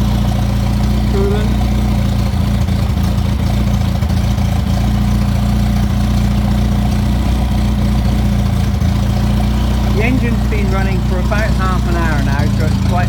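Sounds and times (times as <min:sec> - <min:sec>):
petrol engine idling: 0:00.0 - 0:13.0.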